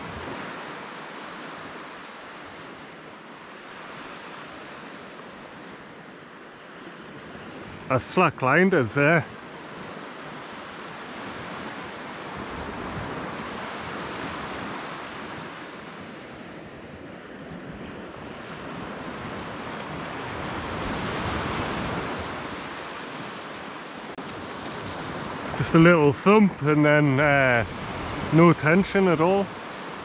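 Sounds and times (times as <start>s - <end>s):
surf washing onto beach: 0.0s - 30.0s.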